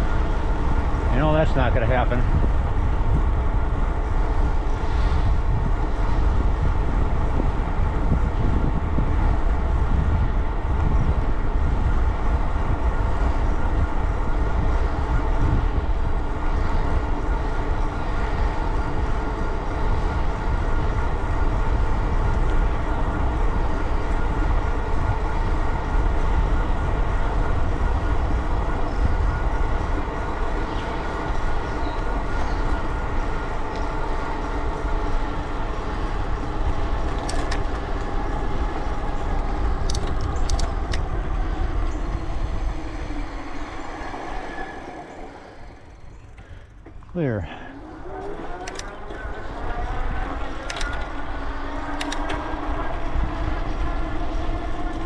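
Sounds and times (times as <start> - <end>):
tyres humming: 0.0 - 55.0
wind rushing over microphone: 0.0 - 55.0.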